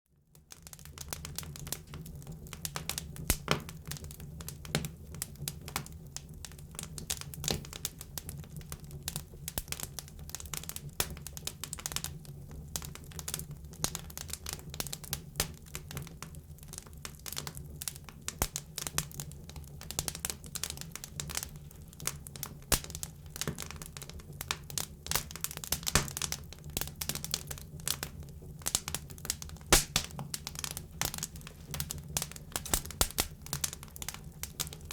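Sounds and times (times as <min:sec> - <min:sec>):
wood crackling and popping: 0:00.3 - 0:34.9.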